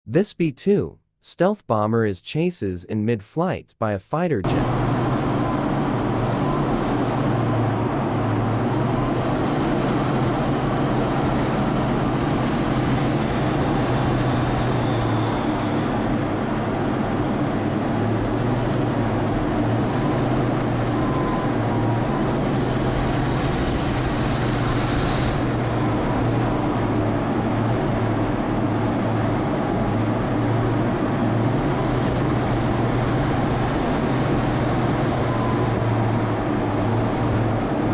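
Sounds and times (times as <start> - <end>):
aircraft engine drone: 4.4 - 37.9.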